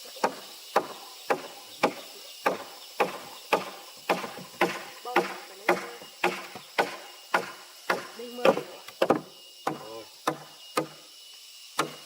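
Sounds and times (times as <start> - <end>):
wood being chopped: 0.2 - 11.0, 11.8 - 12.0.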